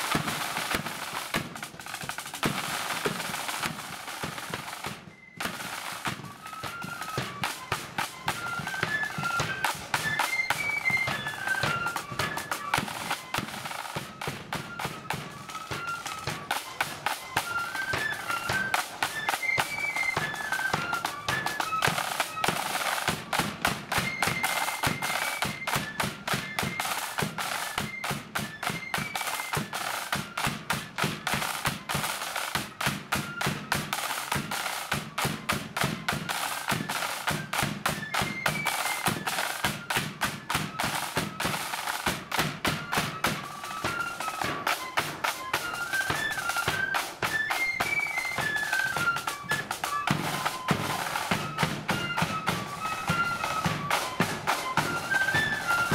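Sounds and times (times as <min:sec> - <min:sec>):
flutes playing a melody: 0:00.0 - 0:55.9
snare drum rolls: 0:00.0 - 0:55.9.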